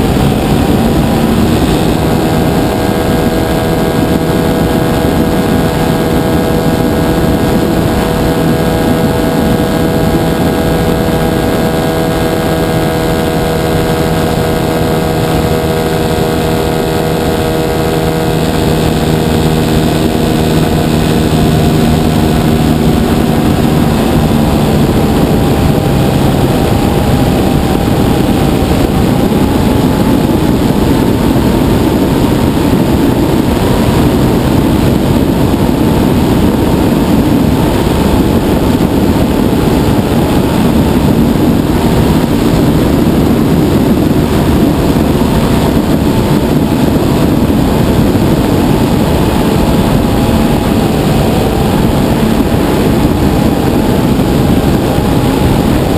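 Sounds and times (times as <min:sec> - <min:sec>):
airflow rushing: 0:00.0 - 0:55.9
model plane engine and propeller: 0:00.0 - 0:55.9.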